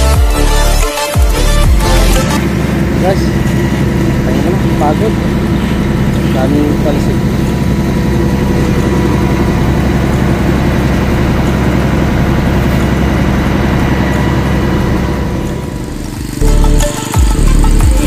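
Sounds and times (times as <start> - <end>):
machine engine droning: 0.0 - 18.0.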